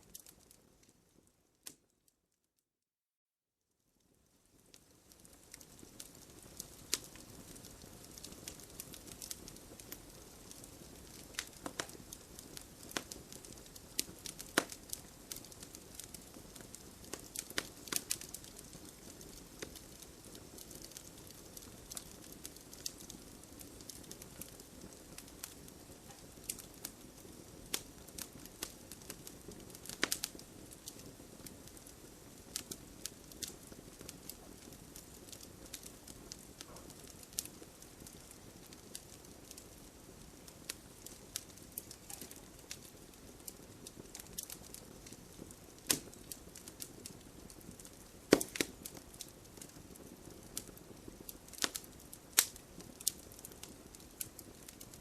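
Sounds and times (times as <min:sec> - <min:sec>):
campfire crackling and popping: 0:00.0 - 0:01.9, 0:04.0 - 0:55.0.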